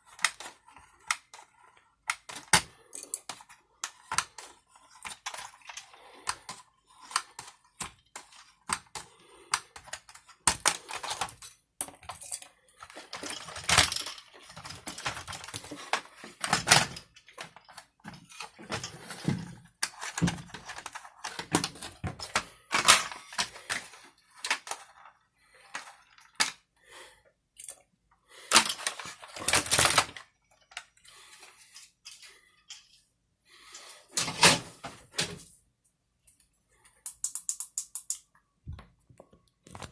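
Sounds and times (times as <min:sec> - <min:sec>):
small parts clicking and scraping: 0:00.0 - 0:26.6, 0:27.6 - 0:33.1, 0:36.2 - 0:38.4.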